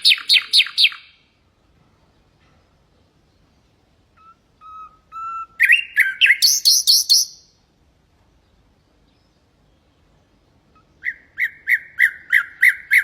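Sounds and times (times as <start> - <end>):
nightingale singing: 0.0 - 1.5, 2.1 - 13.0.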